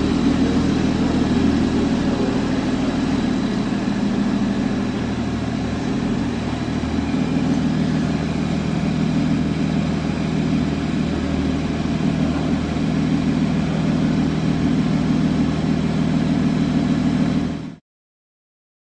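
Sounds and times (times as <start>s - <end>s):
car engine idling: 0.0s - 17.8s.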